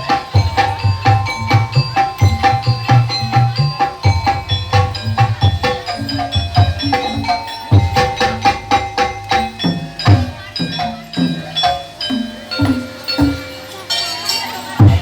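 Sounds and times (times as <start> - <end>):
hand drum strokes: 0.0 - 15.0
ringing struck metal notes: 0.0 - 15.0.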